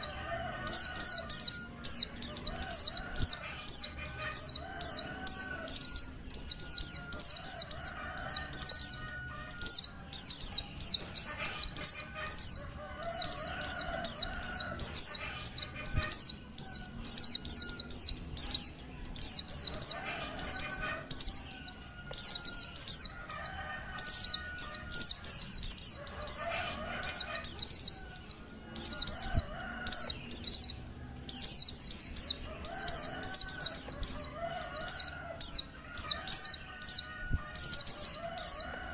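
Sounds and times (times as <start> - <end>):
bird calling in high thin chips: 0.0 - 38.9.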